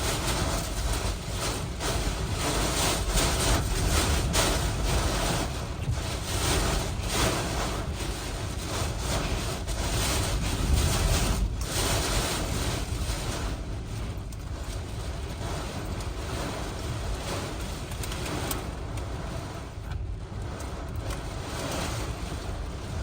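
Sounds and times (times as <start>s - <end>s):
strong wind gusts: 0.0s - 23.0s
wind buffeting microphone: 0.0s - 23.0s.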